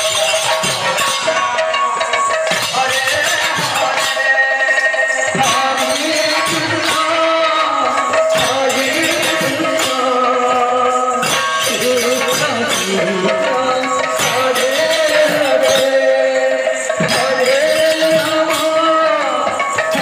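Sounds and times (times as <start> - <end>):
hand cymbals jingling: 0.0 - 20.0
hand drum beats: 0.0 - 20.0
person singing: 2.6 - 20.0.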